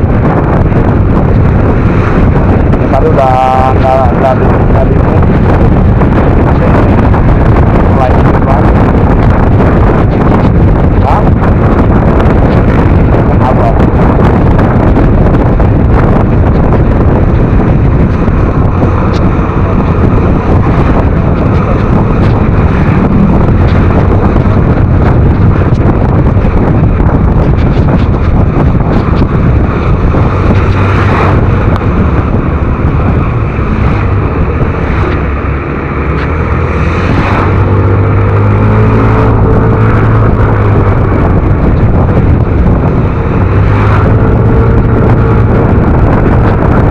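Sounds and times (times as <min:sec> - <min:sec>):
scooter engine and road noise: 0:00.0 - 0:46.9
wind rushing over microphone: 0:00.0 - 0:46.9.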